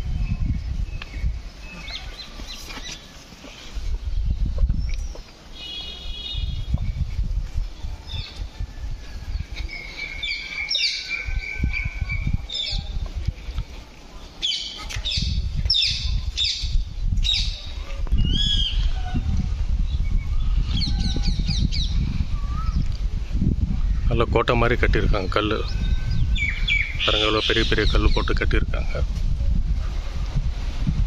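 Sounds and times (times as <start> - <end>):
birds calling: 0.0 - 13.1, 14.1 - 23.0, 23.9 - 28.6.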